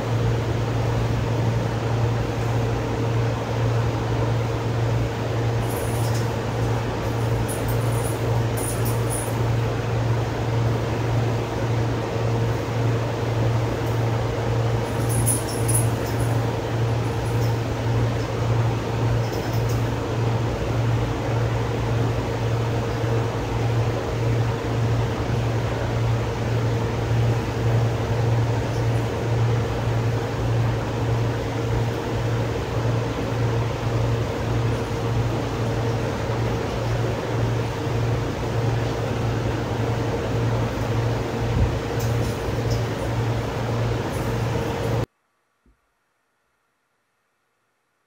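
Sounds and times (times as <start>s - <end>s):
electric machine humming: 0.0s - 45.1s.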